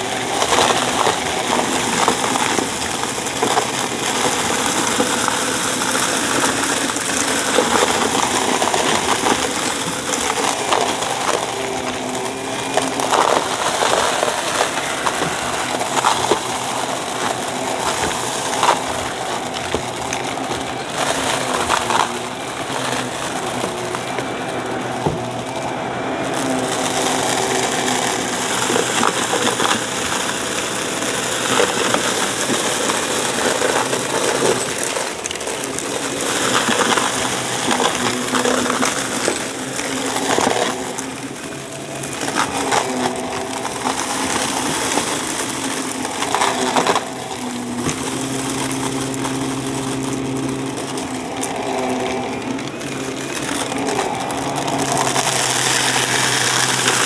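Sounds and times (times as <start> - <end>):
debris rattling into vacuum: 0.0 - 57.0
vacuum cleaner motor hum: 0.0 - 57.0.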